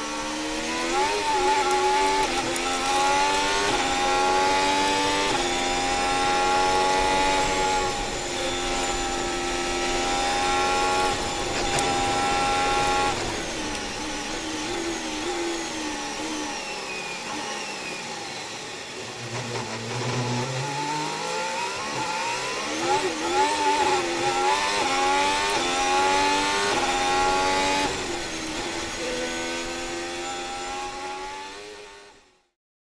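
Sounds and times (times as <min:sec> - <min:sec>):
racing car engine revving: 0:00.0 - 0:16.7, 0:19.1 - 0:32.2.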